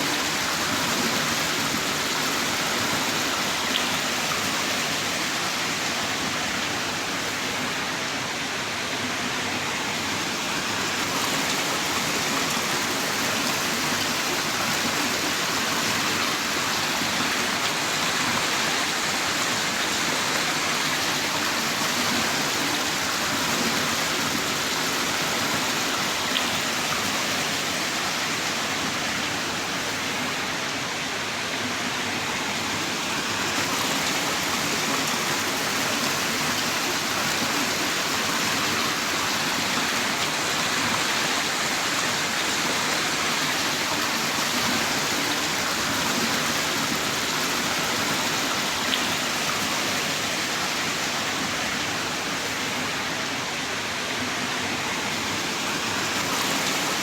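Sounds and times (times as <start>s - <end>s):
heavy rain downpour: 0.0s - 57.0s.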